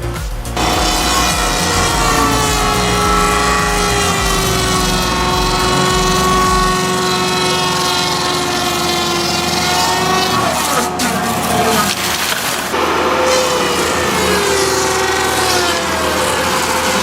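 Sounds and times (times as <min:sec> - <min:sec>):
low pulsing rumble: 0:00.0 - 0:16.8
saw machine whine: 0:00.0 - 0:17.0.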